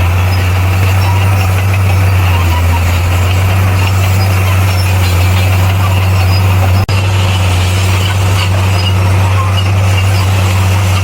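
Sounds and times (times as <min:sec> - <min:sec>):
bulldozer diesel engine droning: 0:00.0 - 0:11.0.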